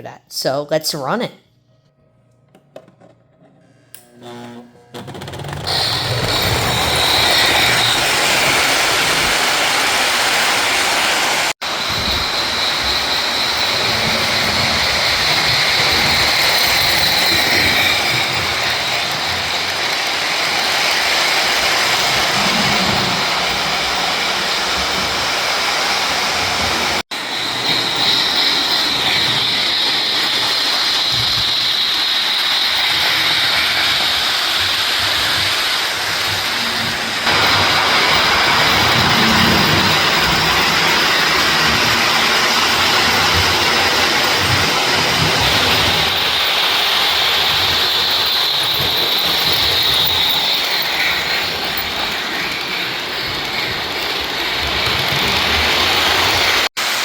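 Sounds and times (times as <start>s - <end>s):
model train wheels rolling on track: 5.0s - 57.0s.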